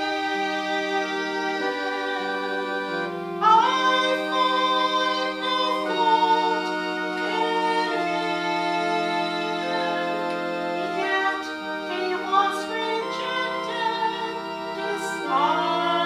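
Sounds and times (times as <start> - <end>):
person singing: 0.0 - 16.0
slow music of held chords: 0.0 - 16.0.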